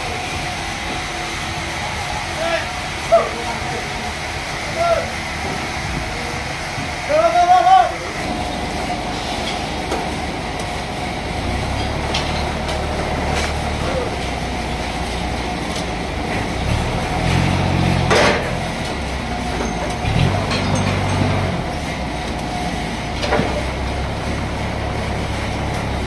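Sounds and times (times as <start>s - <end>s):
forklift engine revving: 0.0s - 26.0s
steady mechanical din: 0.0s - 26.0s.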